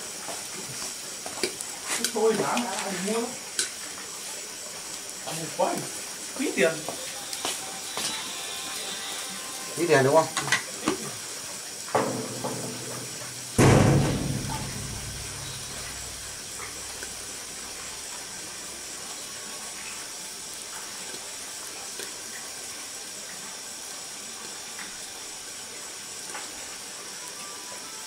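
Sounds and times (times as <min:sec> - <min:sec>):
fire crackling and popping: 0:00.0 - 0:08.3, 0:10.2 - 0:27.0
wood fire hissing: 0:00.0 - 0:28.0.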